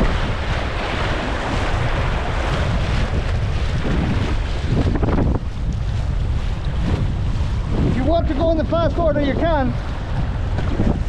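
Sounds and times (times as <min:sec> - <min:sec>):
river water rushing: 0:00.0 - 0:10.9
wind buffeting microphone: 0:00.0 - 0:11.0.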